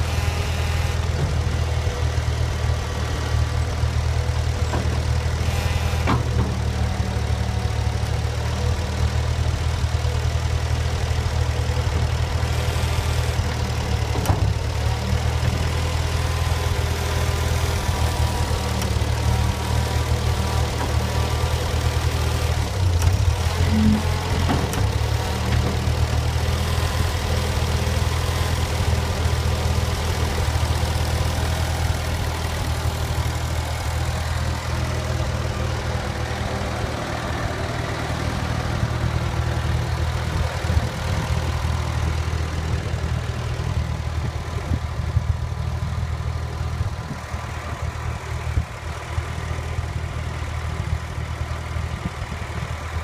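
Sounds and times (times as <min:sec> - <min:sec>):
tractor engine idling: 0:00.0 - 0:53.0.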